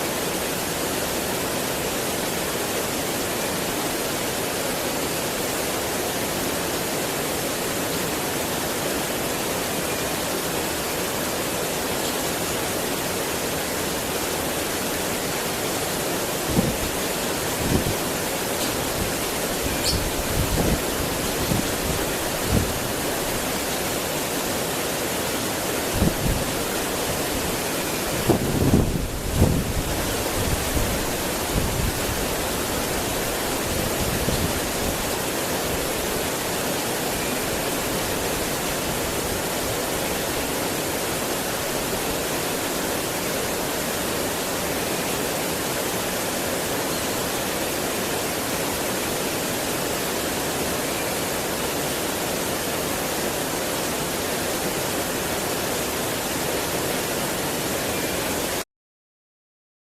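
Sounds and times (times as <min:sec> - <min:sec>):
running water rushing: 0:00.0 - 0:58.6.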